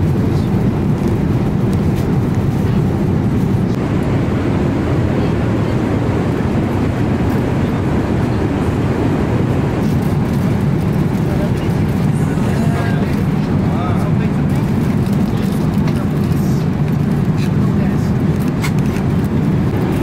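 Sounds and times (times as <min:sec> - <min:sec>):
airplane cabin noise: 0:00.0 - 0:20.0.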